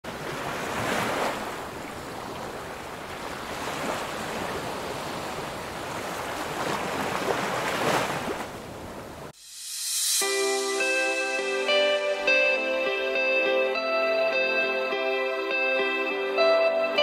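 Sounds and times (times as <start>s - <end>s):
ocean waves on beach: 0.0s - 17.0s.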